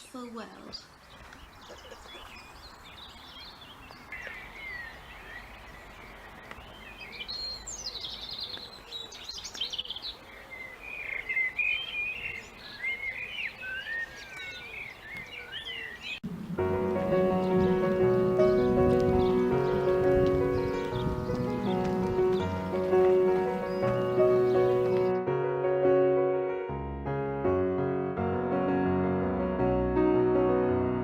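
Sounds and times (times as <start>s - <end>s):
wild birds singing: 0.0s - 25.2s.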